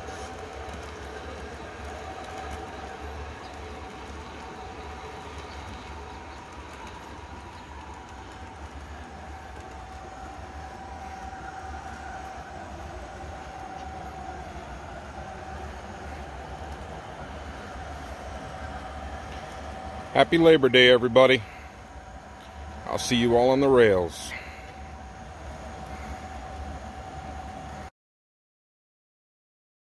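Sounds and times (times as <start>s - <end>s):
model train running hum: 0.0s - 27.9s.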